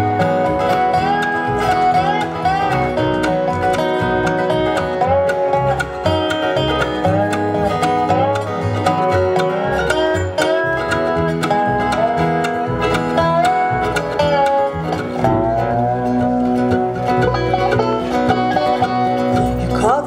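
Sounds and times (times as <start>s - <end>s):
dobro sliding notes: 0.0s - 20.0s
picked banjo: 0.0s - 20.0s
strummed acoustic guitar: 0.0s - 20.0s
walking double bass: 0.0s - 20.0s.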